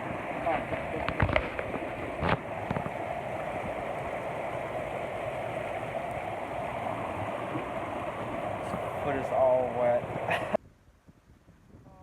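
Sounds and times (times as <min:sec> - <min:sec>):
stream rushing over rocks: 0:00.0 - 0:10.6.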